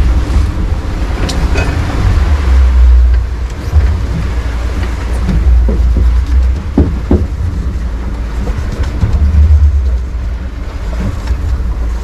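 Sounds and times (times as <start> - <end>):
boat running noise: 0.0 - 12.0
wind buffeting microphone: 0.0 - 12.0.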